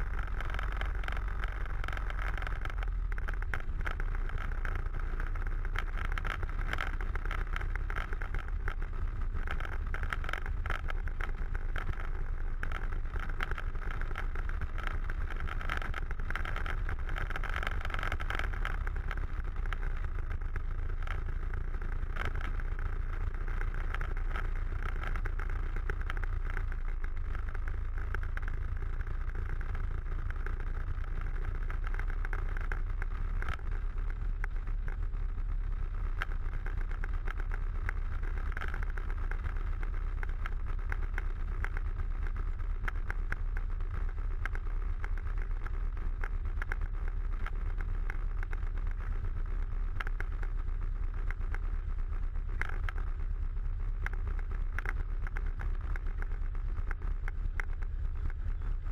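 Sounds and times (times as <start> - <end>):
light ticks: 0.0 - 58.9.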